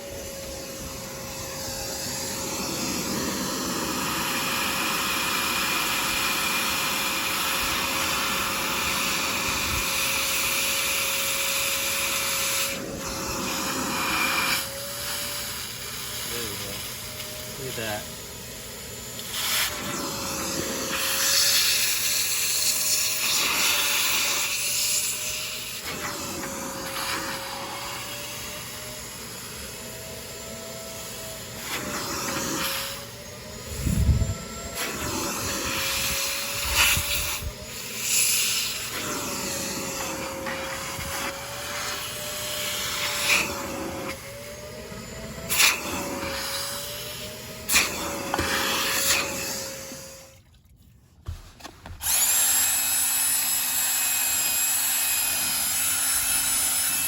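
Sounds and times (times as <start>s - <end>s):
shop vac motor whine: 0.0s - 50.5s, 52.0s - 57.0s.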